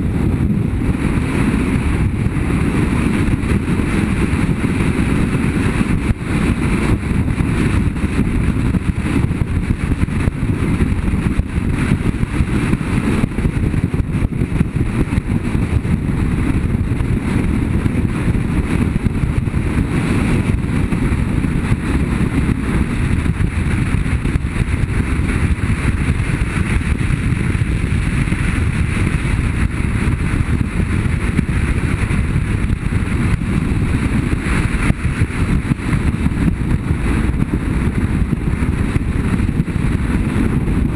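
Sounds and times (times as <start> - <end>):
motorcycle engine running: 0.0 - 40.9
wind rushing on microphone: 0.0 - 40.9.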